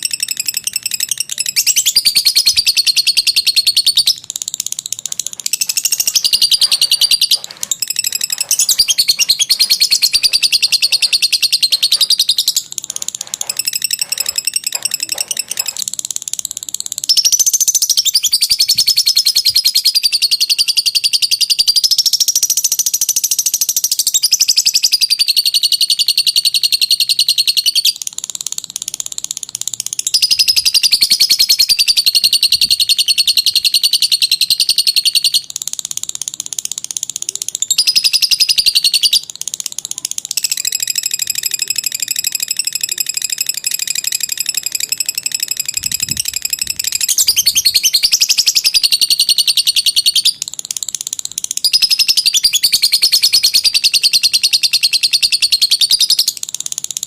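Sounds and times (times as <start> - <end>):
bird high-pitched chatter: 0.0 - 57.0.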